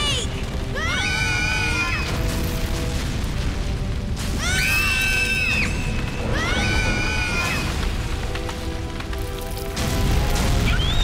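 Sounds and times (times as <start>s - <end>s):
orchestral film music: 0.0s - 11.0s.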